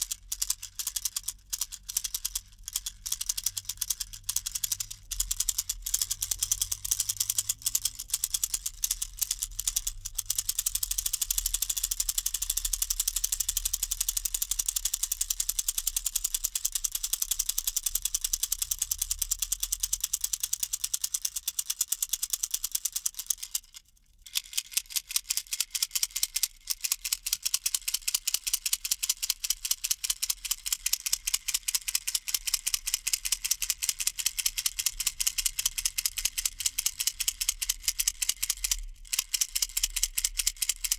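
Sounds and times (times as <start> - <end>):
toy rattle shaken: 0.0 - 40.9.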